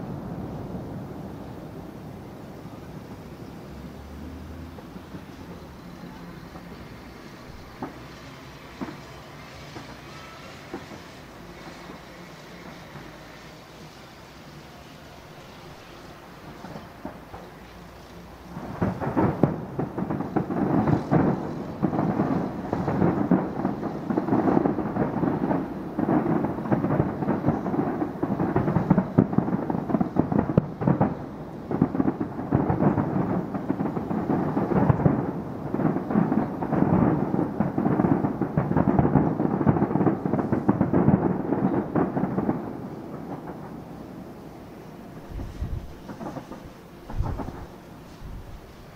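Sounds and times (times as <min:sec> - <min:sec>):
fireworks bursting: 0:00.0 - 0:48.9.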